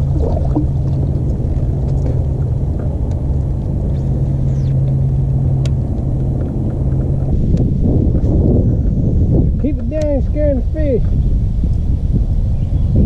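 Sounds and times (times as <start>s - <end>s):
rumbling noise: 0.0s - 13.0s
steady low hum: 0.0s - 13.0s.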